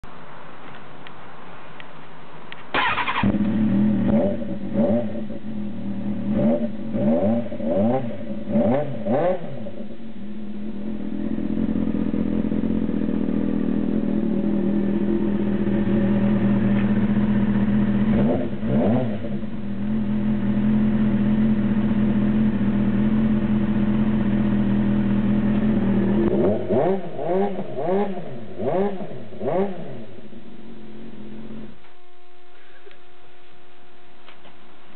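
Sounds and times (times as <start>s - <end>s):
motorcycle engine revving and idling: 2.8s - 34.9s.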